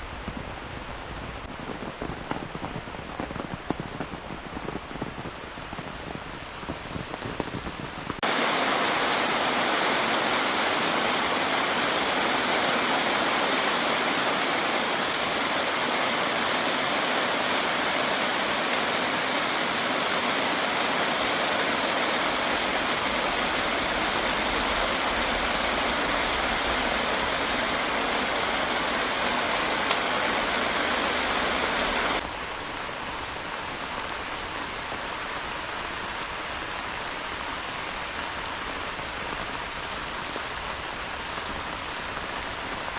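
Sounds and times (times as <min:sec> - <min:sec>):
heavy rain downpour: 0:00.0 - 0:42.9.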